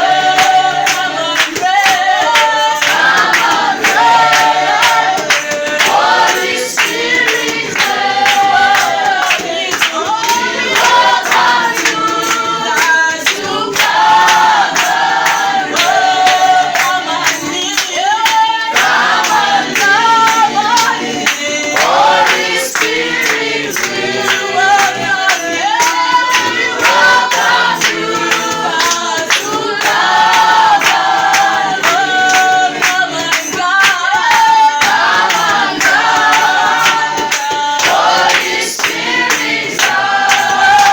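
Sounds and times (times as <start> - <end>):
group singing a worship song: 0.0 - 40.9
rhythmic hand clapping: 0.0 - 40.9.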